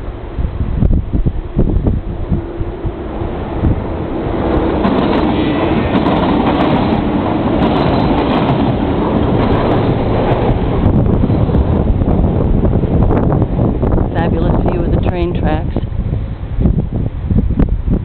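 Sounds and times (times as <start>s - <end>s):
passenger train running on tracks: 0.0s - 18.0s.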